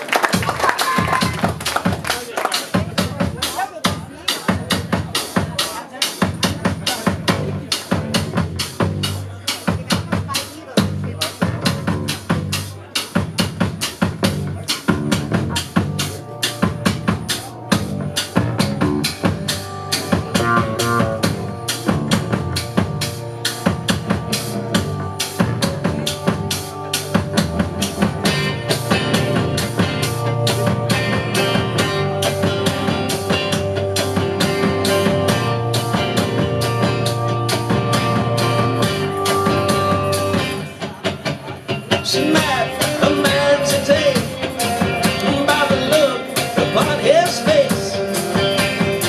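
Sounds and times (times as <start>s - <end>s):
drum kit fast beat: 0.0s - 49.0s
upright bass: 0.0s - 49.0s
picked string instruments: 1.2s - 49.0s.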